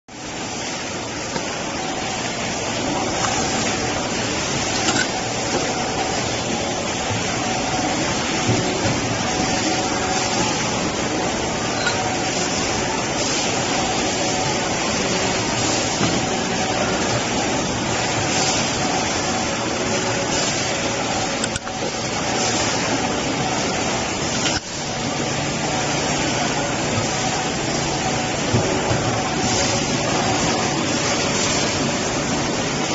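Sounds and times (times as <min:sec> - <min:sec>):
injection moulding machine running: 0:00.1 - 0:32.9.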